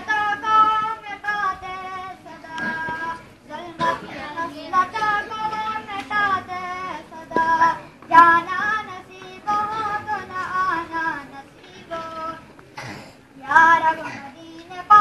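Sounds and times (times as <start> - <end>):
boy singing devotional song: 0.0 - 15.0.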